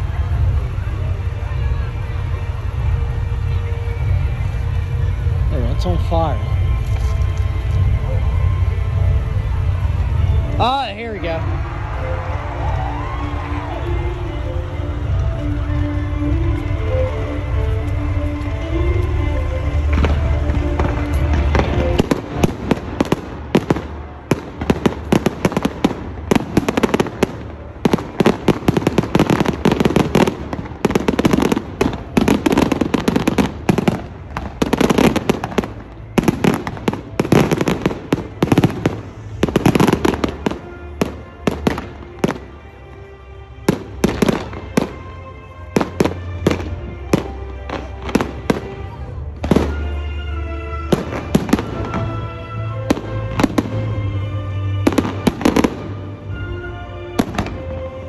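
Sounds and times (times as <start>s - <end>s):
fireworks bangs and crackles: 0.0s - 43.0s, 43.6s - 56.5s, 57.1s - 58.0s.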